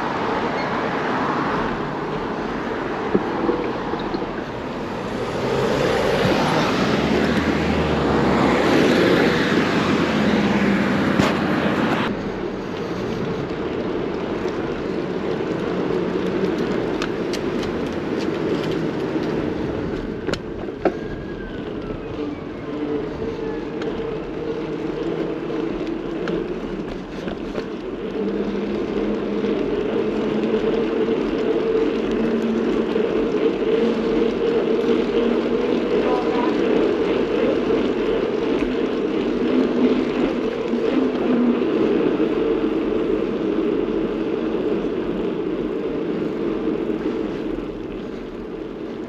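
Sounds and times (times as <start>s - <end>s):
road and traffic noise: 0.0s - 49.0s.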